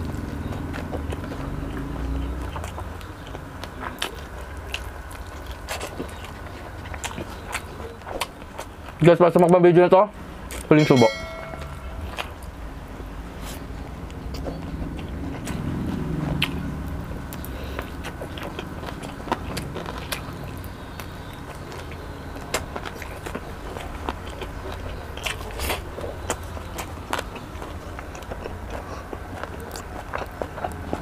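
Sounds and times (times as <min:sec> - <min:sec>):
person chewing: 0:00.0 - 0:09.0, 0:13.4 - 0:31.0.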